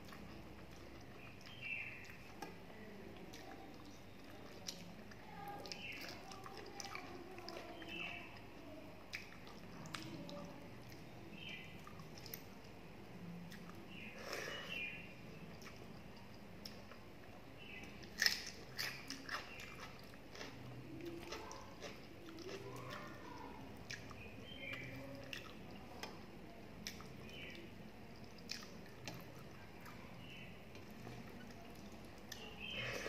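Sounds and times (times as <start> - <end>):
person chewing wet food: 0.0 - 33.0.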